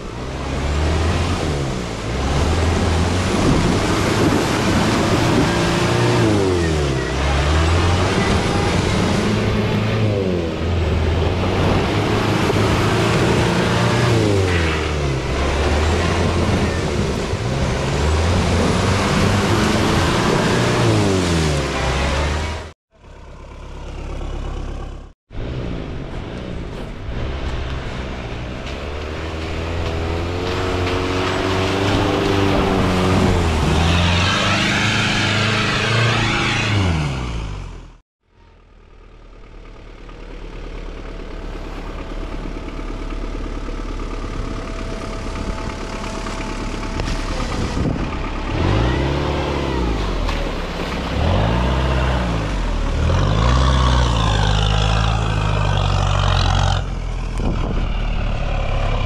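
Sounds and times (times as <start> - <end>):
car engine revving in mud: 0.0 - 22.8, 23.7 - 38.0, 40.2 - 59.0.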